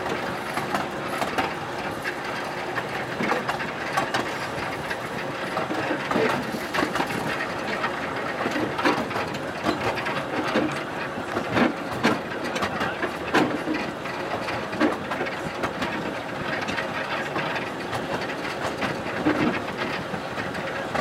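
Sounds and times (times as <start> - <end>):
clacks and rattles: 0.0 - 21.0
train wheels rumbling on rail: 0.0 - 21.0.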